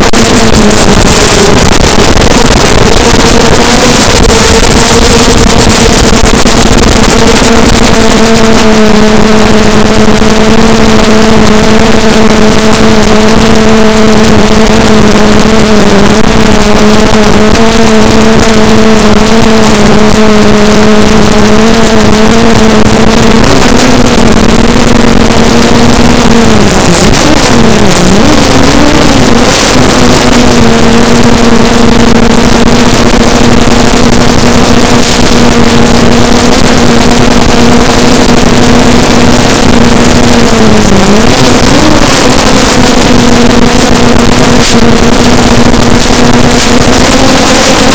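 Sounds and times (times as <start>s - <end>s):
drone motors buzzing: 0.0s - 47.9s.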